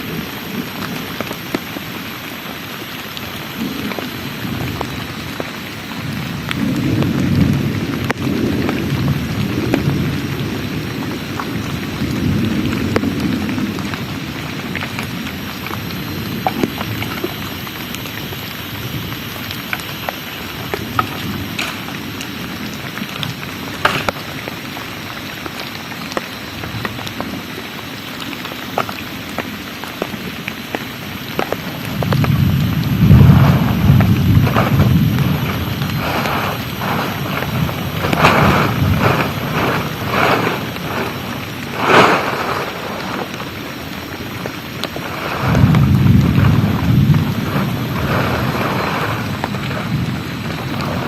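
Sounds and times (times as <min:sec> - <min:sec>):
heavy rain falling: 0:00.0 - 0:51.0
raindrops ticking close by: 0:00.0 - 0:51.0
low rumble of thunder: 0:03.3 - 0:25.6, 0:31.0 - 0:51.0.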